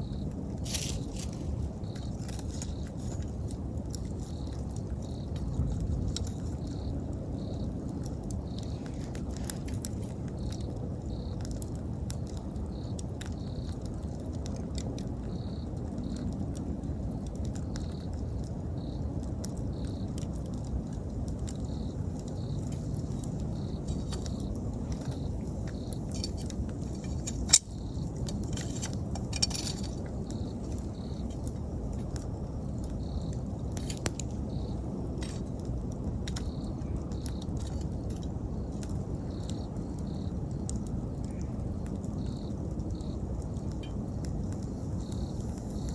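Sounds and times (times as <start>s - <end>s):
insect chirping: 0.0s - 14.1s, 15.1s - 45.9s
wood fire crackling: 0.0s - 45.9s.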